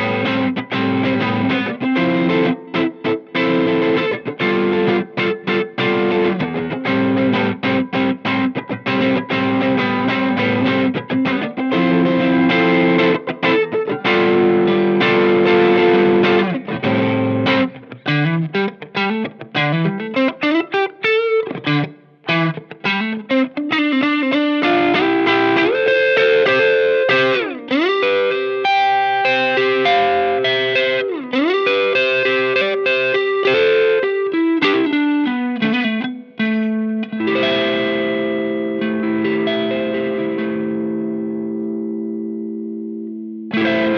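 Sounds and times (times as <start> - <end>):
overdriven electric guitar: 0.0 - 43.9.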